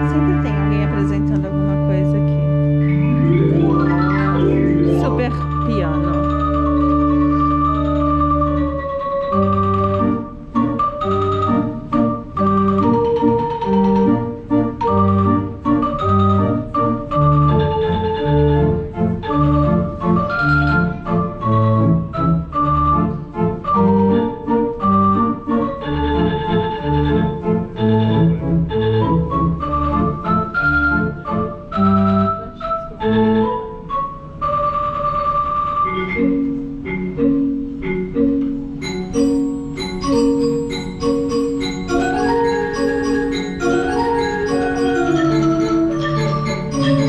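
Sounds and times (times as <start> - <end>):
pipe organ playing: 0.0 - 47.0.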